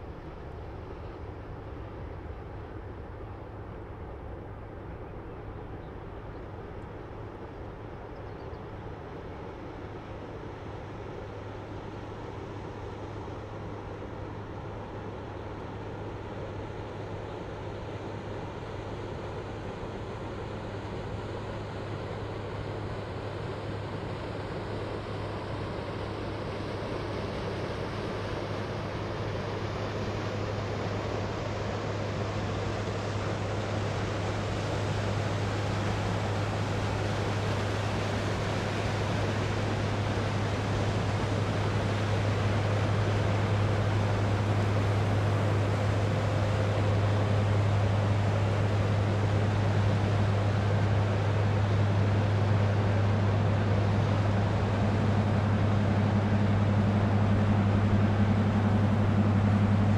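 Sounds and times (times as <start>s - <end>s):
light breeze: 0.0s - 59.9s
ship diesel engine drone: 0.0s - 59.9s.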